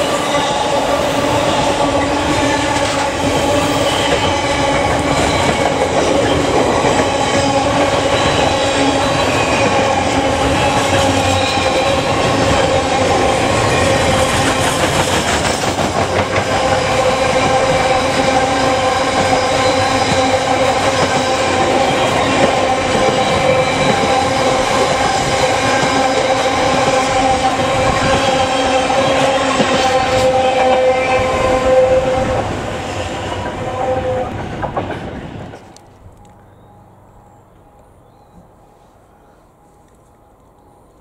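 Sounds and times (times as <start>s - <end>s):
train wagons clattering on rails: 0.0s - 31.1s, 32.2s - 36.3s.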